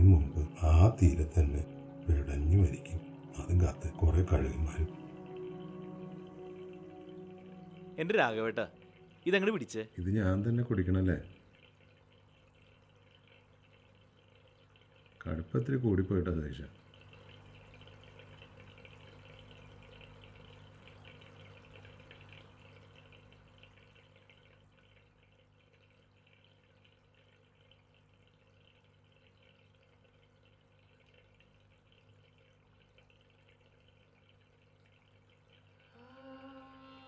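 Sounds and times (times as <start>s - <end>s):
faint room hum: 0.0s - 37.0s.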